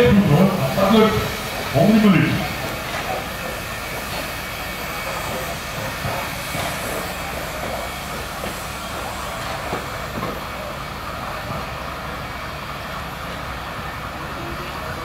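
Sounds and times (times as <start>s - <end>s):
steam locomotive rumble and hiss: 0.0s - 15.0s.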